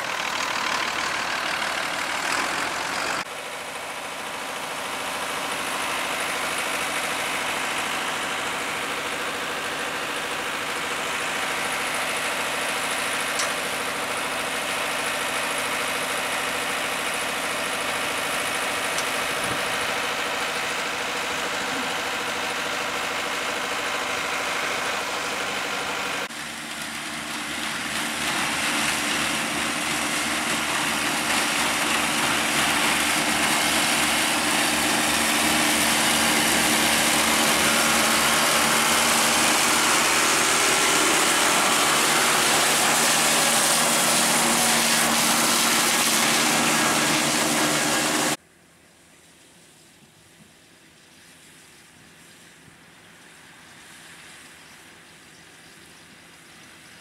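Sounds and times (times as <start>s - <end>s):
tractor engine running: 0.0s - 48.4s.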